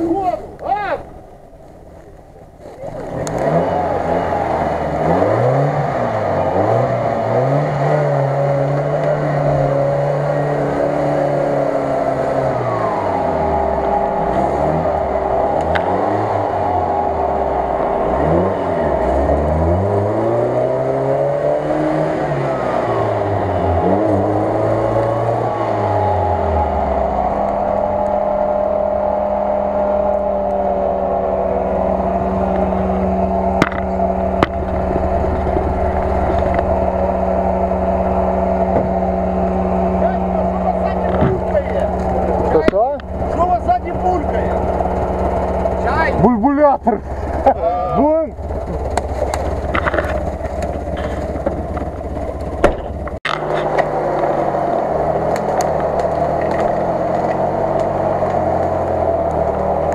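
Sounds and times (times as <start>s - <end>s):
engine revving: 2.4s - 59.9s.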